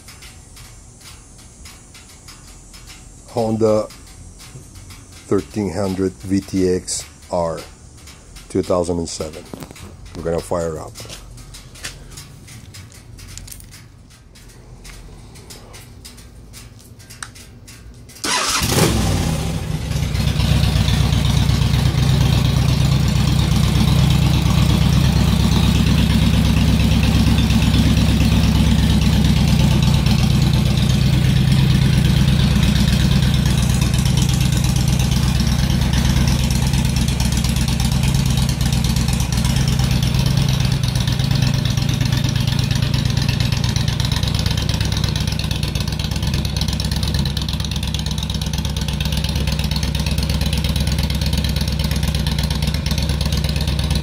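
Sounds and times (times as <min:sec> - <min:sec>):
motorcycle engine starting and idling: 0:00.0 - 0:54.0.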